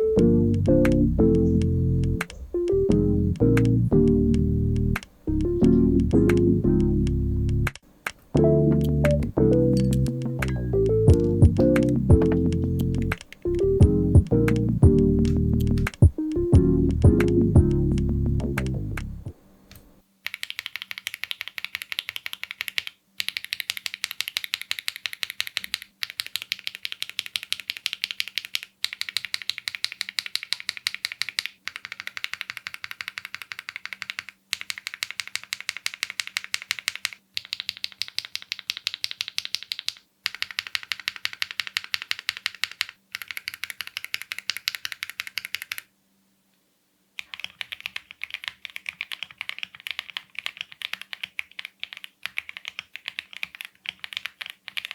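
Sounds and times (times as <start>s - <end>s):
mechanical keyboard typing: 8.4s - 19.2s, 20.2s - 45.9s, 47.2s - 54.9s.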